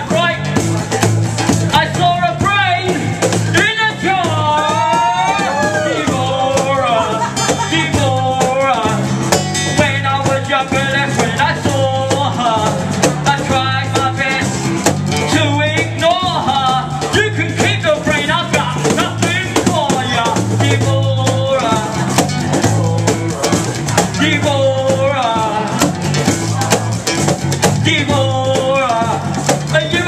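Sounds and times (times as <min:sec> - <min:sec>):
cajon drum: 0:00.0 - 0:30.0
electric bass: 0:00.0 - 0:30.0
strummed acoustic guitar: 0:00.0 - 0:30.0.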